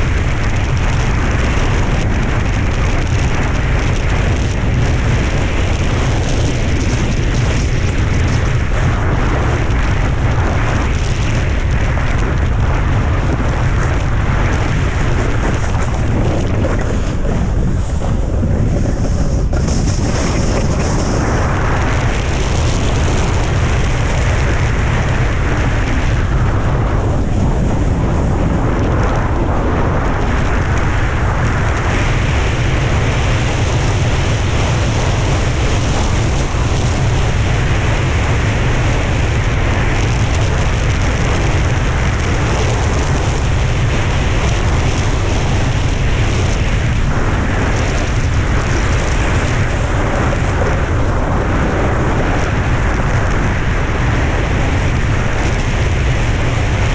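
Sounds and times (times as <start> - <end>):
snowboard sliding on hard snow: 0.0 - 56.9
wind buffeting on microphone: 0.0 - 56.9.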